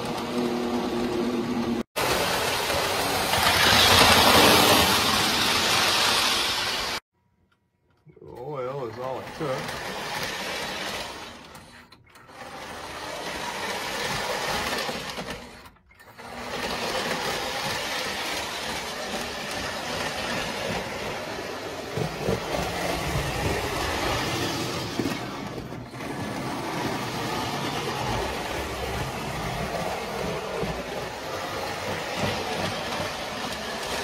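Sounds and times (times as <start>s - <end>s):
train wheels on rails: 0.0s - 7.0s, 8.5s - 34.0s
model train motor whirring: 2.0s - 7.0s, 9.0s - 34.0s.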